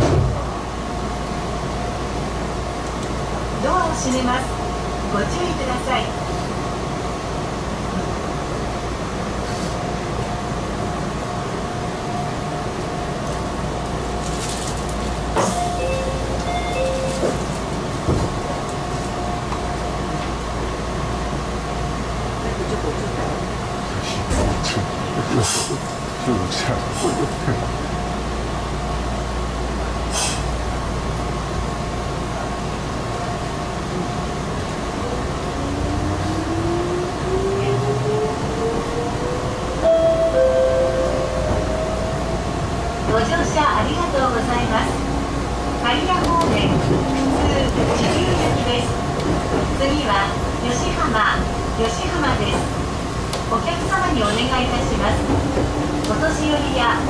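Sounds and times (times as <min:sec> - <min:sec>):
electric train running rumble: 0:00.0 - 0:57.0.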